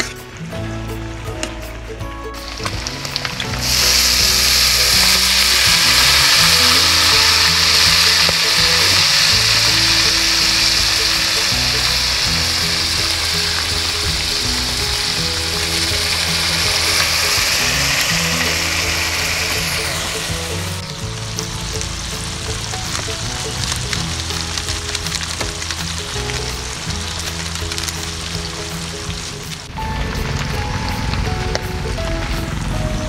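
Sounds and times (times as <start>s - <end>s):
background music low notes: 0.0s - 33.0s
meat sizzling in oil: 2.4s - 29.5s.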